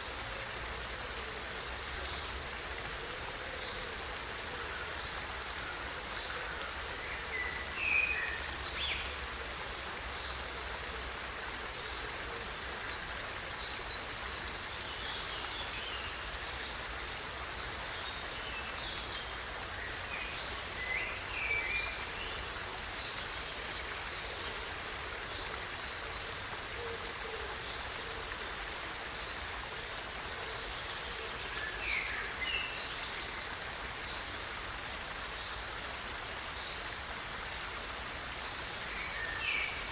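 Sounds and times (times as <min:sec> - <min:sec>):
rushing running water: 0:00.0 - 0:39.9.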